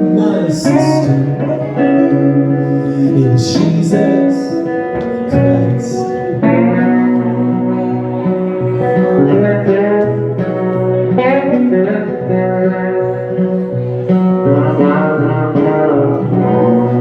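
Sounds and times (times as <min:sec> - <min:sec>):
live band playing with guitars: 0:00.0 - 0:17.0.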